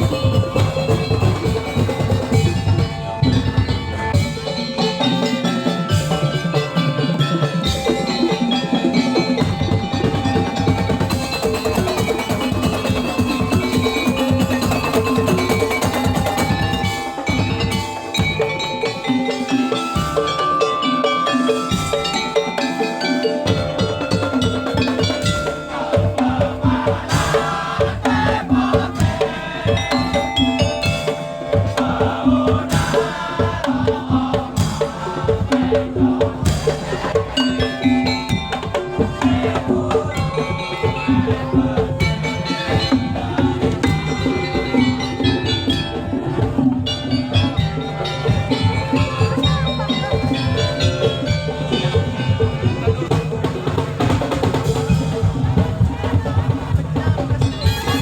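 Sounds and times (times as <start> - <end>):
drums: 0.0 - 58.0
mallet-struck metallic tones: 0.0 - 58.0
ringing tuned percussion: 0.0 - 58.0.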